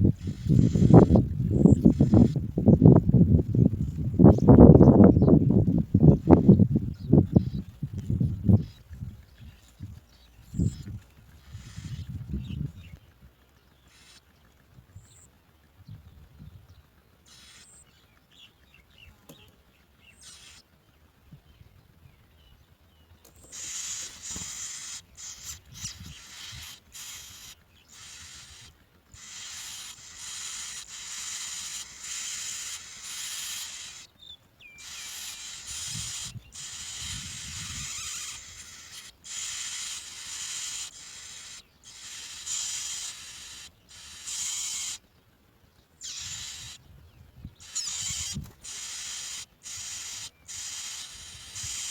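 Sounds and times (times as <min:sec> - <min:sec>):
nestlings begging calls: 0:00.0 - 0:16.6, 0:17.2 - 0:20.7, 0:23.3 - 0:45.2, 0:45.8 - 0:51.9.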